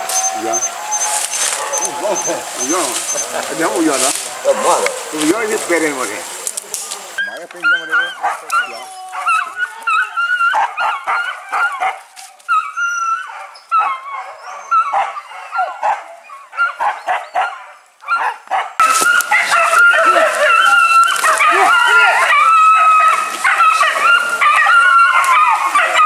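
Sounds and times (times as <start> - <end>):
dogs yelping and barking: 0.0 - 6.5, 7.2 - 26.0.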